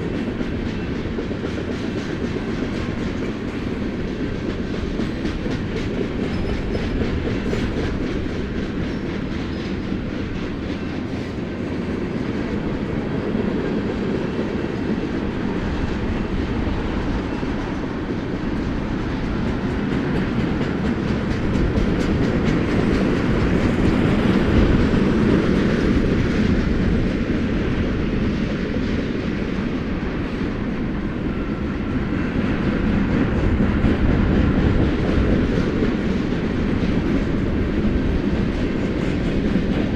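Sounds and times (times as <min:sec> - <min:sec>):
freight train rumbling past: 0:00.0 - 0:39.9
wheels clickety-clack: 0:00.0 - 0:39.9.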